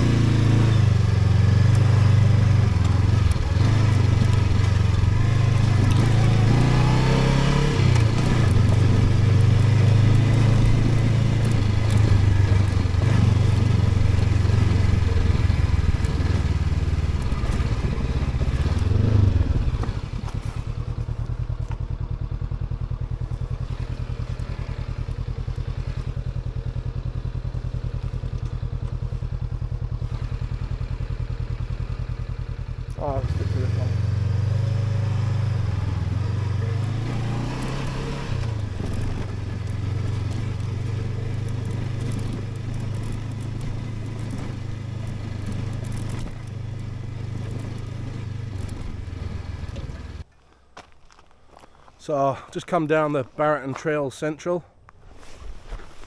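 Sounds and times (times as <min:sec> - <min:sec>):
clatter: 0:00.0 - 0:31.4, 0:35.7 - 0:50.3
motorcycle engine revving: 0:00.0 - 0:50.3.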